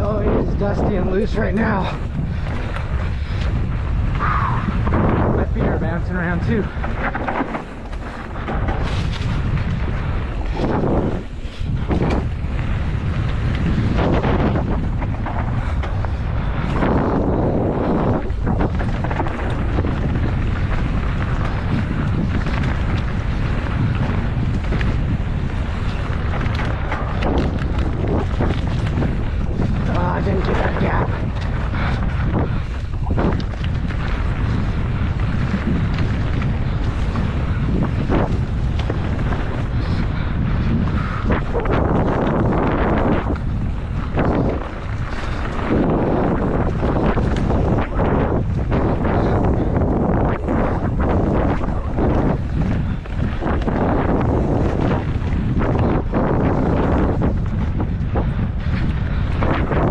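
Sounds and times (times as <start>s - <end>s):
bike knocking and clattering: 0.0s - 59.9s
tyres rumbling on dirt: 0.0s - 59.9s
wind buffeting microphone: 0.0s - 59.9s.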